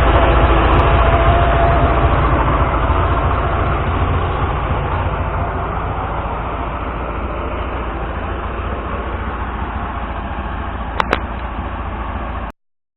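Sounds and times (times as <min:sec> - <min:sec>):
car engine running: 0:00.0 - 0:12.5
road noise: 0:00.0 - 0:12.6.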